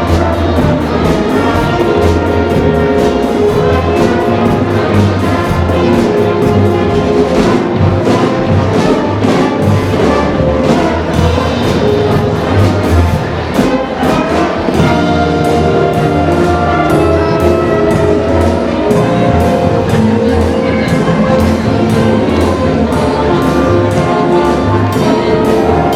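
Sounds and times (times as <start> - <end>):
bass: 0.0 - 25.9
brass melody: 0.0 - 25.9
drum beat: 0.0 - 25.9.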